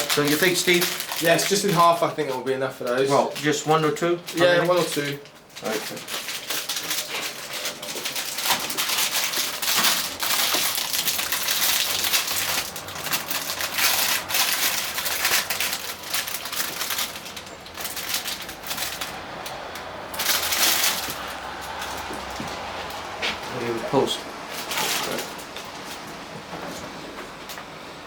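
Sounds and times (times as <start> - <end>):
plastic packaging crinkling: 0.0 - 27.7.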